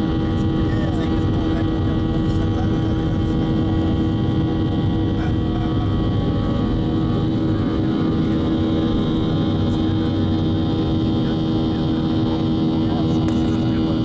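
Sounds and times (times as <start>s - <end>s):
jet engines droning: 0.0s - 14.0s.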